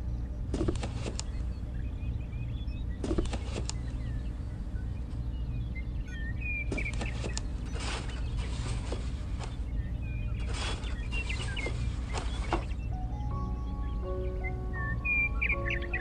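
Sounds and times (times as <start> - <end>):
faint bird chirps: 0.0 - 16.0
steady low hum: 0.0 - 16.0.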